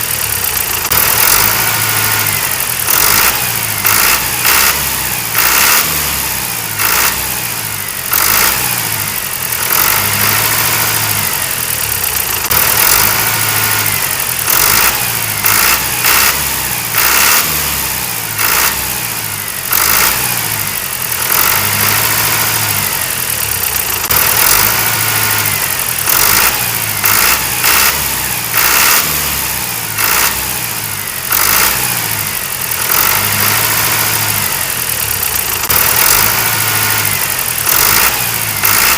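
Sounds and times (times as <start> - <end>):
tractor engine revving: 0.0 - 38.9.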